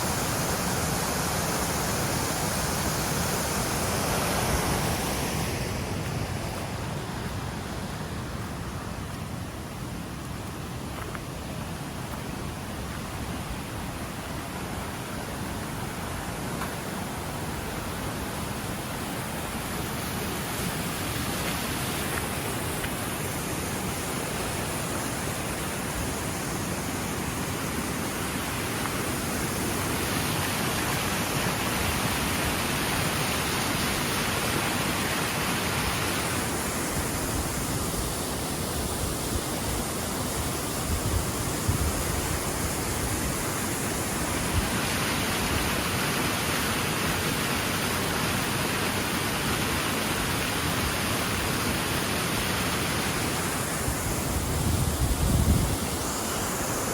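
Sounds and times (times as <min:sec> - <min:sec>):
roar of rushing water: 0:00.0 - 0:56.9.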